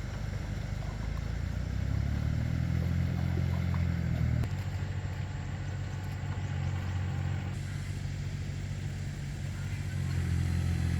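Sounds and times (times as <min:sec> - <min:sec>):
tractor engine droning: 0:00.0 - 0:10.9.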